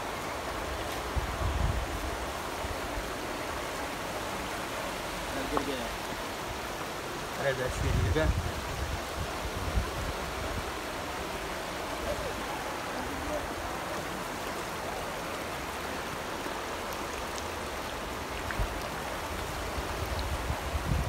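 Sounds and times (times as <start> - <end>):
river flowing over stones: 0.0 - 21.0.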